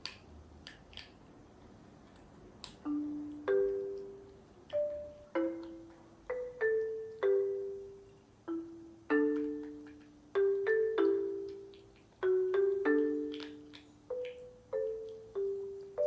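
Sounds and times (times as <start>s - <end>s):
mallet percussion melody: 2.8s - 16.0s.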